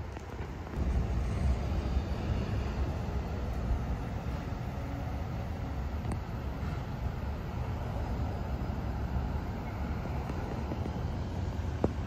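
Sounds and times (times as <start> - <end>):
vehicle low rumble: 0.0 - 12.0.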